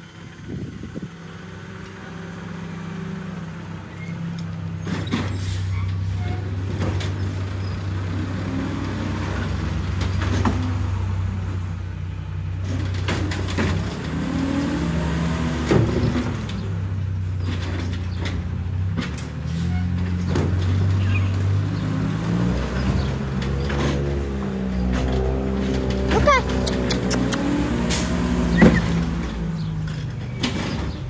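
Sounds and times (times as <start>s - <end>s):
garbage truck engine running: 0.0s - 31.0s.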